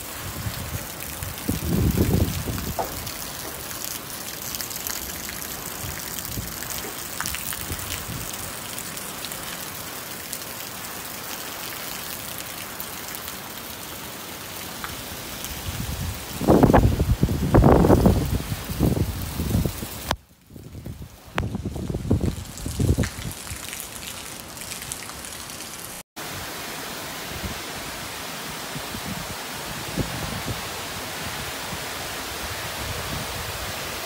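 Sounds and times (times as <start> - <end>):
heavy rain pouring: 0.0 - 34.0
runoff water running: 0.0 - 34.0.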